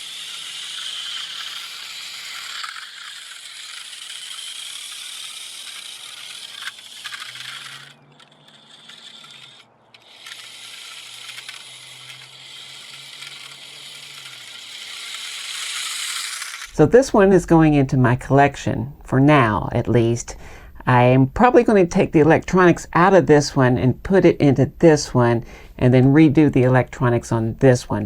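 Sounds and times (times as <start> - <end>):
toy truck motor whirring: 0.0 - 25.7, 26.6 - 28.0.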